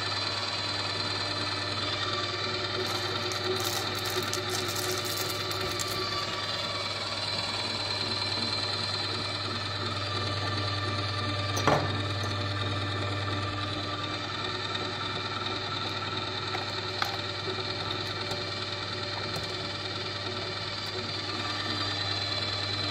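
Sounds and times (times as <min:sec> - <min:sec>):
electric grinder motor humming: 0:00.0 - 0:22.9.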